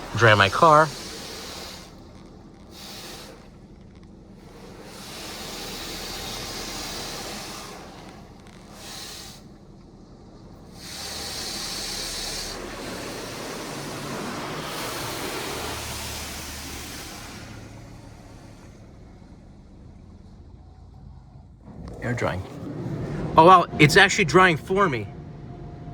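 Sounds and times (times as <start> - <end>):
car wash water spray hissing: 0.0 - 25.0.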